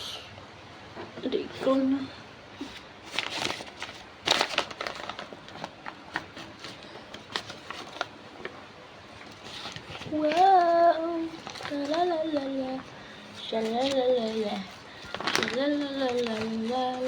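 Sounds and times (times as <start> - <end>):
food wrapping crinkling: 2.9 - 17.0.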